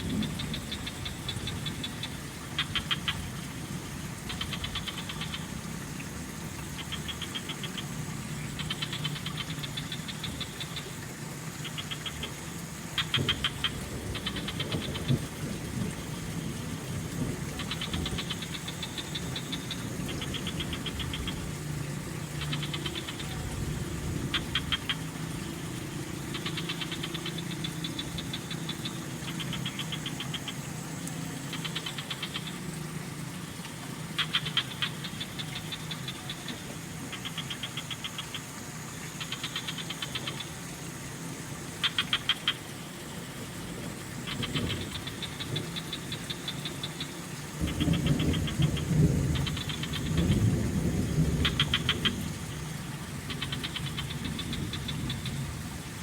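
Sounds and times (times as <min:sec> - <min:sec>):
frogs calling in chorus: 0:00.0 - 0:56.0.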